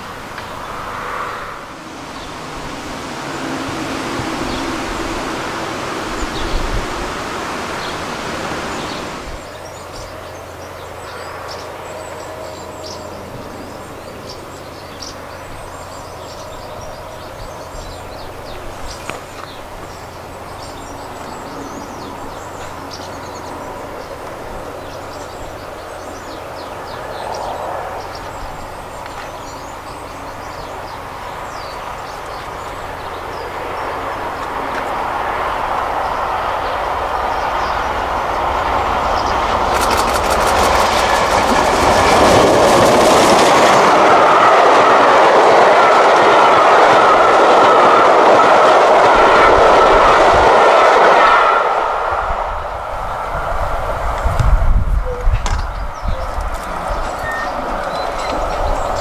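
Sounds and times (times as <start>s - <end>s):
birds chirping: 0.0s - 59.0s
broad rush of noise: 0.0s - 59.0s
steam locomotive approaching: 0.0s - 59.0s.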